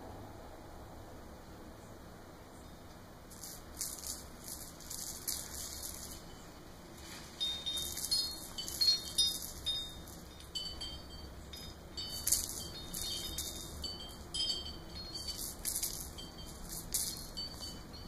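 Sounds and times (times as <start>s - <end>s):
spring ball toy rattling and jingling: 3.3s - 18.0s.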